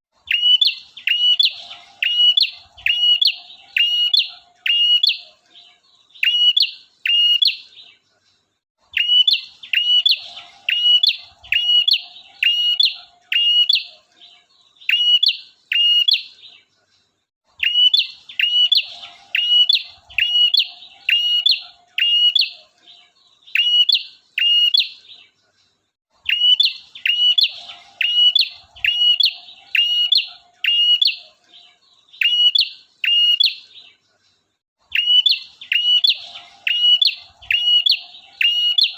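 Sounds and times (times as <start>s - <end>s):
faint low bird chatter: 0.2s - 38.9s.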